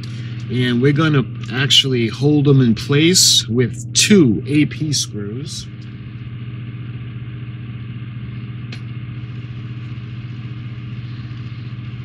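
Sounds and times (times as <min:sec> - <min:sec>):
low hum like idling engine: 0:00.0 - 0:12.0.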